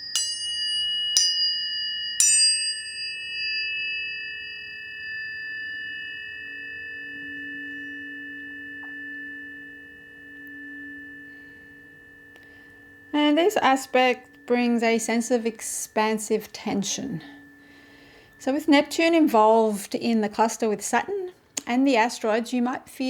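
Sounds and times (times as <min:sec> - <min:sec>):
tuning forks ringing: 0:00.0 - 0:21.2.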